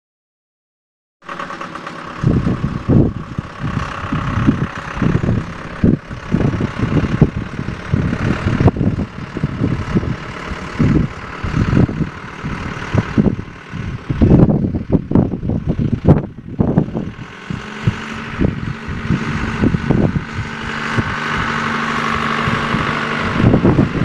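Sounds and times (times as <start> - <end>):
distant tractor diesel engine: 1.2 - 24.0
wind buffeting the microphone: 2.2 - 24.0.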